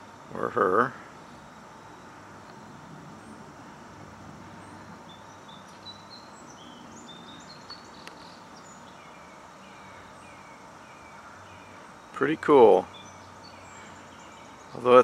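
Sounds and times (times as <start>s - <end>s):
background hiss: 0.0s - 15.0s
small birds chirping: 0.0s - 15.0s.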